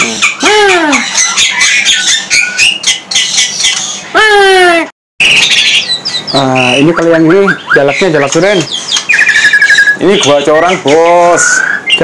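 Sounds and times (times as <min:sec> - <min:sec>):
bird whistling rising and falling: 0:00.0 - 0:04.0, 0:05.2 - 0:10.2, 0:10.8 - 0:12.0
songbirds chirping: 0:00.0 - 0:12.0.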